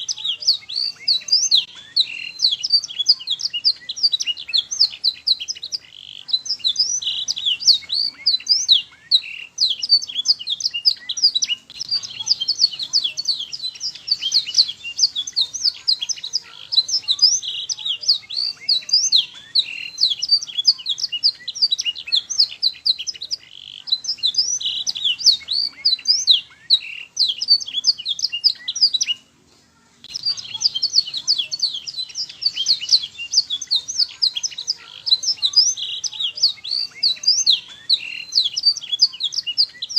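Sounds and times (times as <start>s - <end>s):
canary singing chirps and trills: 0.0s - 39.9s.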